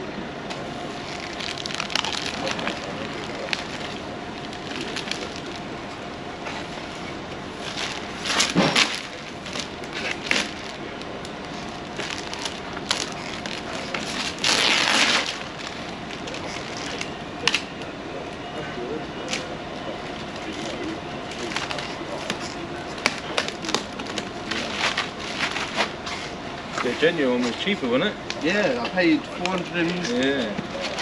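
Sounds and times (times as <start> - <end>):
crunching scraping work noise: 0.0 - 31.0.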